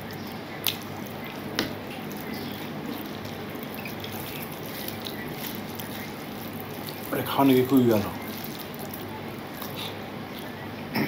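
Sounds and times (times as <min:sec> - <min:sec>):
fingers squishing food: 0:00.0 - 0:10.6
low background hum: 0:00.0 - 0:11.0.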